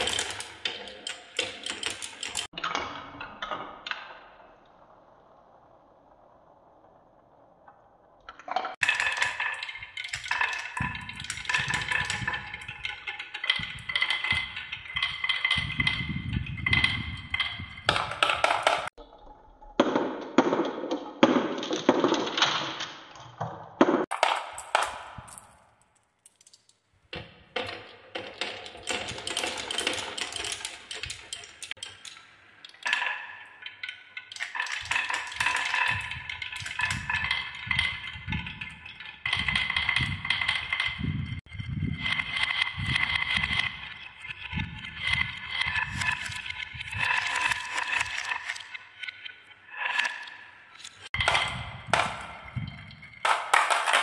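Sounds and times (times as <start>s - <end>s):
marbles clicking and clattering: 0.0s - 4.2s, 8.3s - 19.0s, 24.0s - 54.0s
marbles rolling on wooden tracks: 0.0s - 4.3s, 7.2s - 19.0s, 23.4s - 54.0s.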